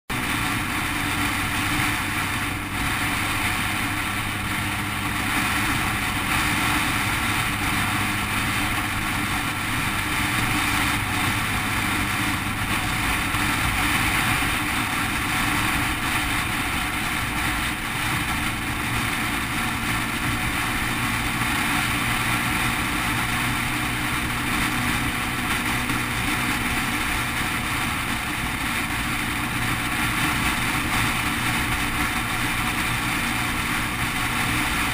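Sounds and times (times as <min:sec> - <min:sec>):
motorcycle engine running: 0:00.1 - 0:34.9
wind and road noise: 0:00.1 - 0:34.9.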